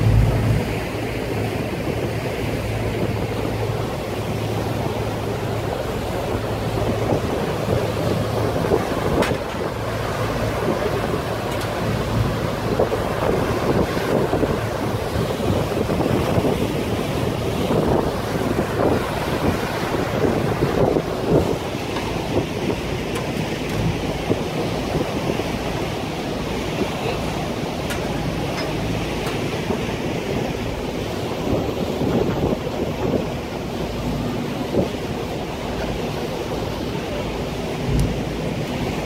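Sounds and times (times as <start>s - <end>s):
low steady engine hum: 0.0s - 39.0s
water rushing in boat wake: 0.0s - 39.0s
wind buffeting microphone: 0.0s - 39.0s.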